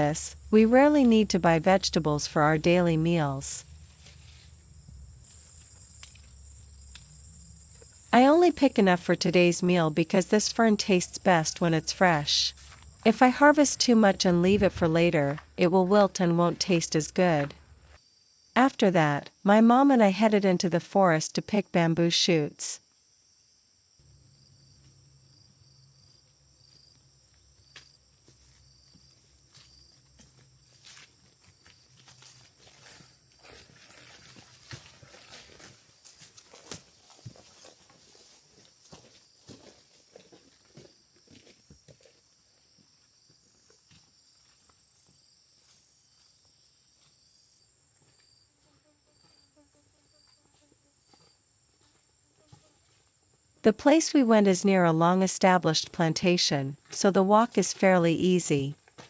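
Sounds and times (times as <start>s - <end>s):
insects ringing and chirping: 0.0s - 19.5s, 22.8s - 51.7s.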